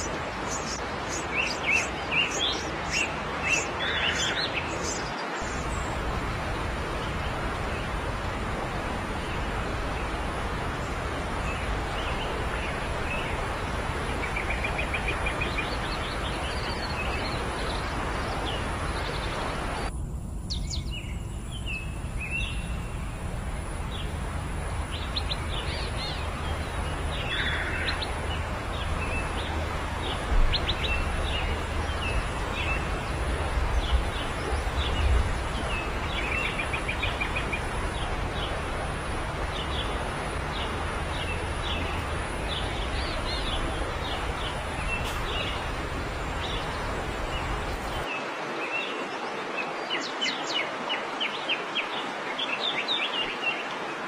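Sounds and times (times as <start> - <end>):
birds chirping: 0.0 - 48.1
steady background hiss: 0.0 - 48.7.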